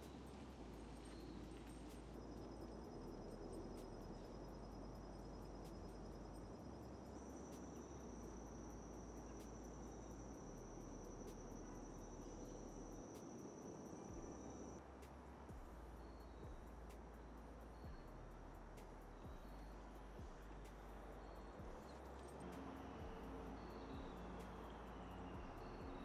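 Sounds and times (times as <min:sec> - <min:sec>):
insects trilling: 0:00.0 - 0:26.0
low background rumble: 0:00.0 - 0:26.0.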